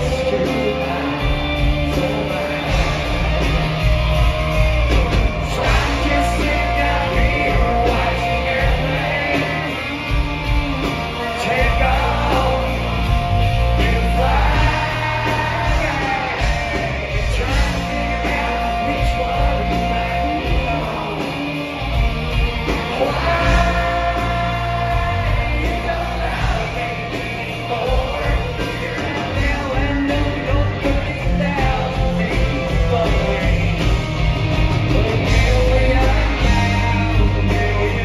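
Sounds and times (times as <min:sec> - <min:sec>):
drums: 0:00.0 - 0:38.0
electric and acoustic guitars: 0:00.0 - 0:38.0
person singing: 0:00.0 - 0:38.0.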